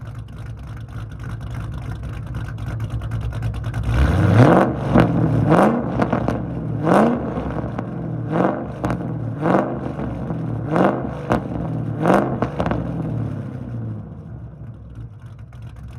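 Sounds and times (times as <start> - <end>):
car engine revving and idling: 0.0 - 15.9.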